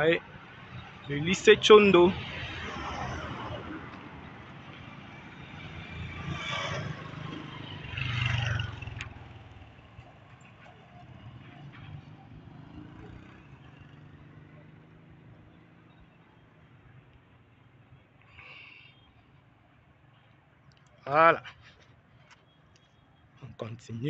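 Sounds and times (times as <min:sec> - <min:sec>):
street background: 0:00.0 - 0:24.0
vehicles passing: 0:00.0 - 0:24.0.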